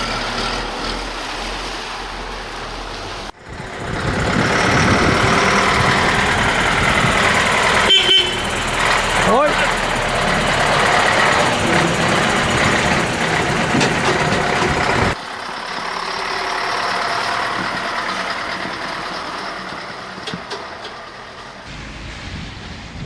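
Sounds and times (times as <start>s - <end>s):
quieter vehicle engine: 0.0s - 23.0s
truck diesel engine running: 0.0s - 23.0s.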